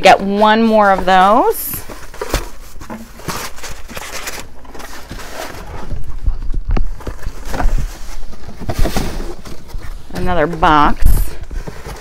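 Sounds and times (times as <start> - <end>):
packaging rustling and clicking: 0.6 - 10.2, 11.3 - 12.0.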